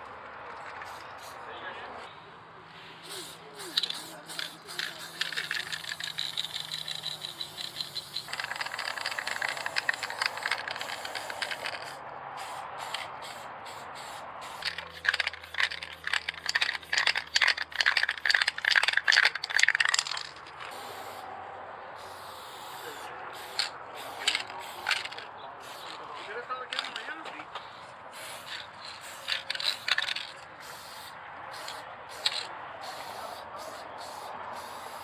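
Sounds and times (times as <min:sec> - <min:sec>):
spray can ball rattling: 0:00.8 - 0:01.3, 0:03.0 - 0:21.2, 0:22.0 - 0:27.1, 0:28.1 - 0:35.0
spray paint can hissing: 0:00.8 - 0:01.4, 0:03.0 - 0:21.2, 0:22.0 - 0:26.0, 0:28.1 - 0:35.0.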